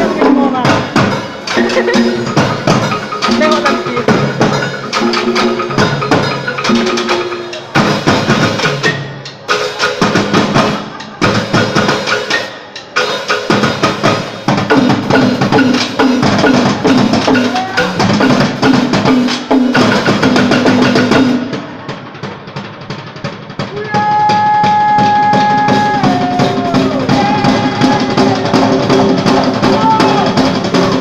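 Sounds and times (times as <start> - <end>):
percussion ensemble playing: 0.0 - 31.0.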